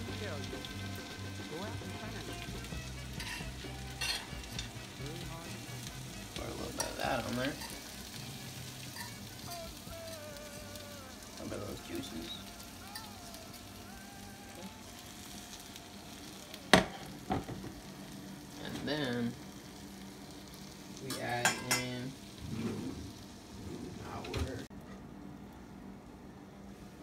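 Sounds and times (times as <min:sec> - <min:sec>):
vegetables sizzling in skillet: 0:00.0 - 0:24.8.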